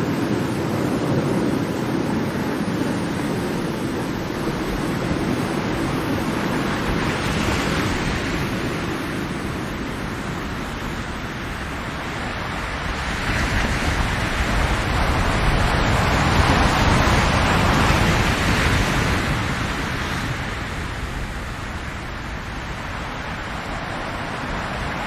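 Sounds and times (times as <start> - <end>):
ocean waves on a shore: 0.0 - 25.0.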